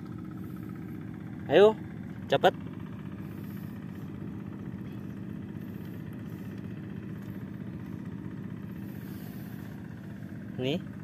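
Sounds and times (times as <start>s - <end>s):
engine droning steadily: 0.0s - 11.0s.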